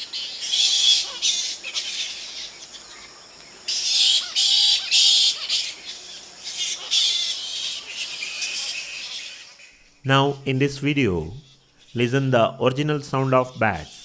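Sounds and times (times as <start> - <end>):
fruit bats screeching: 0.0 - 14.0.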